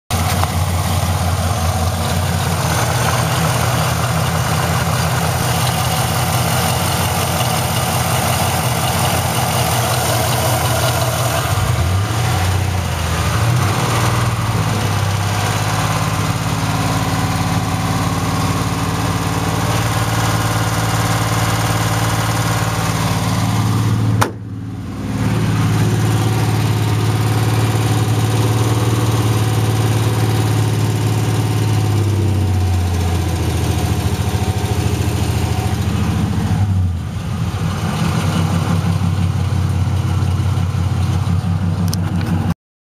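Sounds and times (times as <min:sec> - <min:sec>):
rapid engine ticking: 0:00.1 - 0:42.4
car engine idling: 0:00.1 - 0:42.5.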